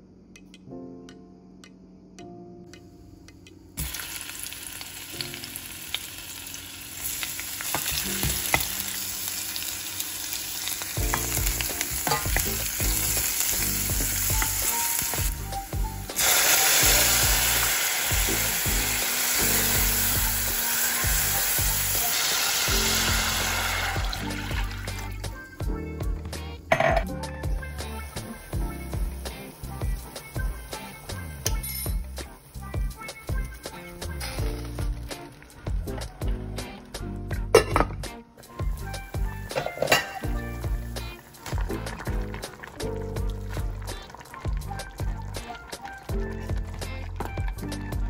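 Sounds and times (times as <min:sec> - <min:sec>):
onion sizzling in hot oil: 0:03.8 - 0:25.4, 0:27.8 - 0:36.8, 0:38.4 - 0:47.7.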